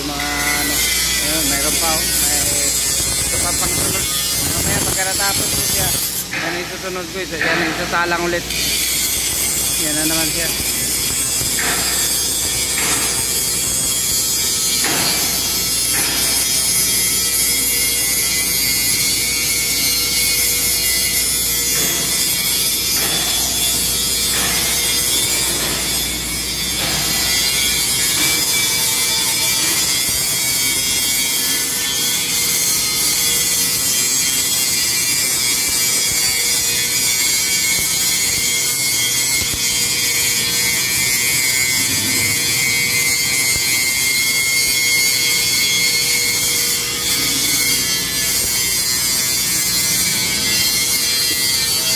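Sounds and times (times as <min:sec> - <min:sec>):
angle grinder grinding steel: 0:00.0 - 0:51.9.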